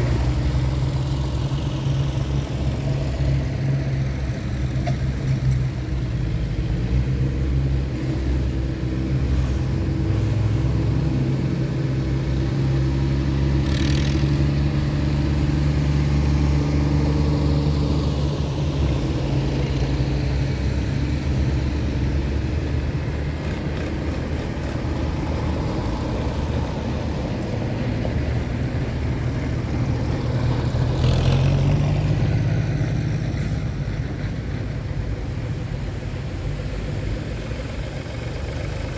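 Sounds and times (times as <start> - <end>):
tractor engines running: 0.0 - 38.9.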